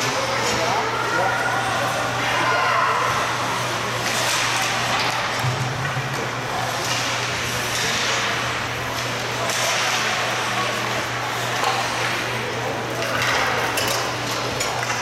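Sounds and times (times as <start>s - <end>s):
game noise echoing in arena: 0.0s - 15.0s
indistinct crowd voices: 0.0s - 15.0s.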